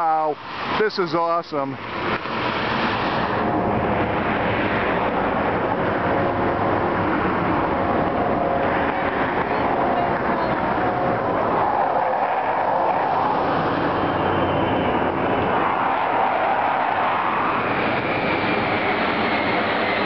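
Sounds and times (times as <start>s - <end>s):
jet aircraft roaring overhead: 0.0s - 20.0s.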